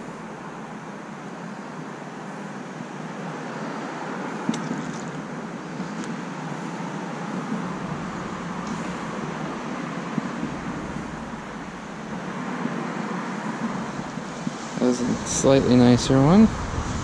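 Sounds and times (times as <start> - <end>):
outdoor background rush: 0.0 - 17.0.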